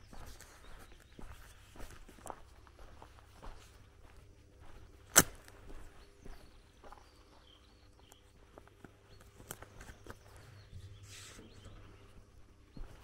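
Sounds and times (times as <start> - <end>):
footsteps on grass and dirt: 0.0 - 13.0
small bird chirping: 0.0 - 13.0.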